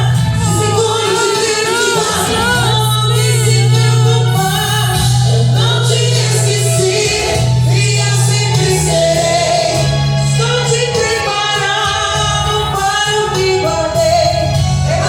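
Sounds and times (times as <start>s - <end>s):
band accompaniment: 0.0s - 15.0s
sustained bass: 0.0s - 15.0s
woman singing: 0.0s - 15.0s.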